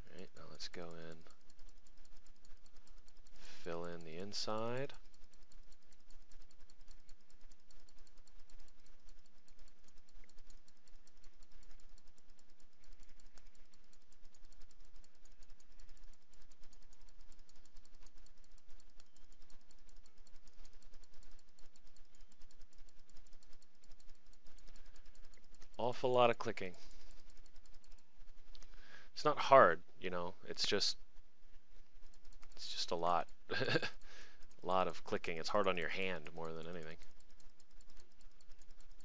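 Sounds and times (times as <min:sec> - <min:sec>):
computer mouse clicking: 0:00.0 - 0:39.0.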